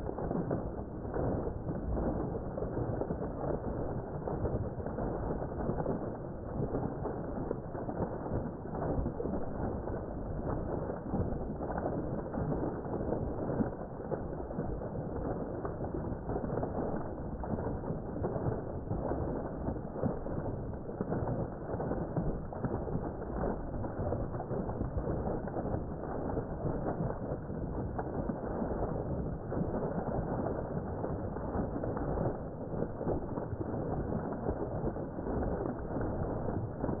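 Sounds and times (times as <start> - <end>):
water jet splashing into pond: 0.0 - 37.0.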